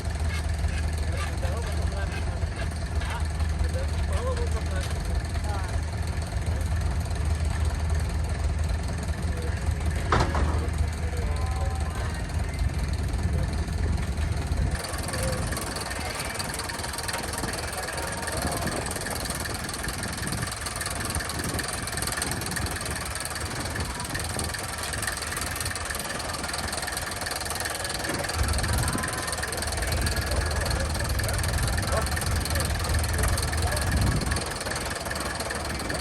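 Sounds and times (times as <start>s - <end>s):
busy noisy background: 0.0s - 36.0s
engine running steadily: 0.0s - 36.0s
heavy low rumble: 0.0s - 36.0s.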